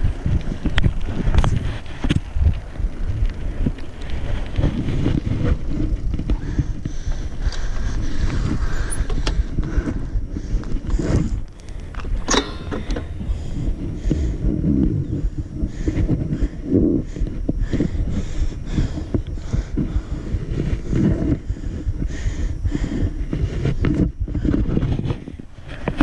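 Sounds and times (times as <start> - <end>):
bike clicking and rattling: 0.0 - 26.0
wind on microphone: 0.0 - 26.0.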